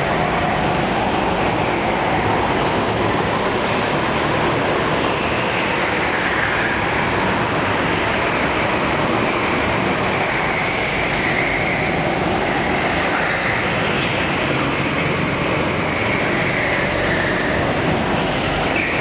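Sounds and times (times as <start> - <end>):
go-kart engines racing: 0.0 - 19.0.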